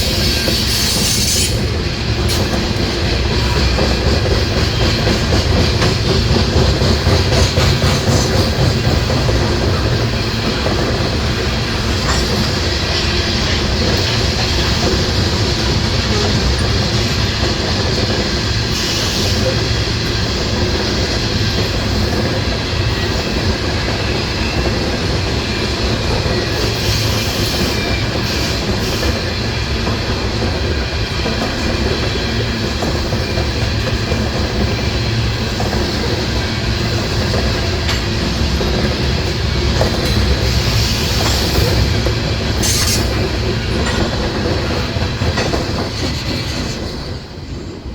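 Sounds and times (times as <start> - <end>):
wheels clacking over rail joints: 0.1 - 47.3.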